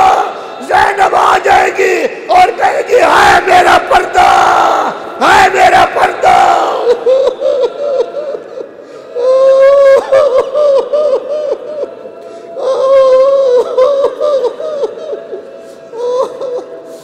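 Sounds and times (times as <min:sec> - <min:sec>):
mourners wailing and sobbing: 0:00.0 - 0:17.0.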